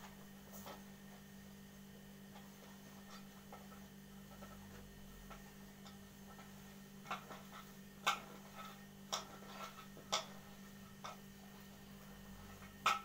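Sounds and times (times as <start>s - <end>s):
hands kneading dough on metal: 0.0s - 13.0s
steady low hum: 0.0s - 13.0s.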